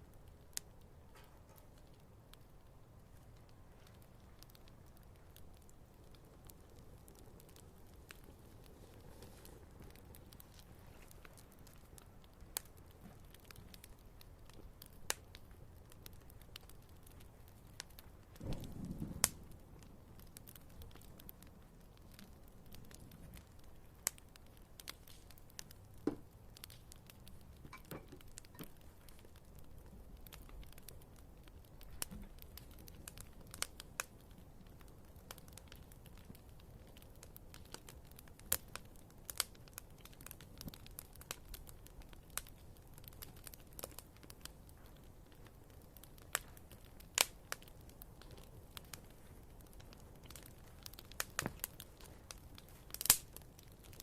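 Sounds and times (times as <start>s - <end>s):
faint low hiss: 0.0s - 54.0s
wood fire crackling: 0.0s - 54.0s.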